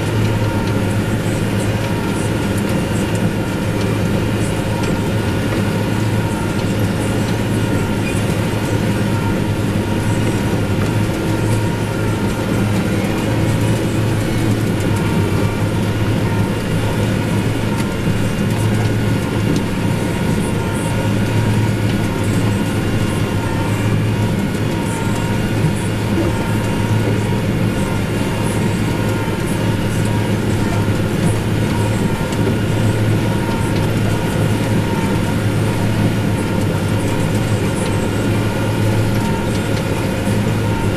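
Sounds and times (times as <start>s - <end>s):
tractor diesel engine drone: 0.0s - 40.9s.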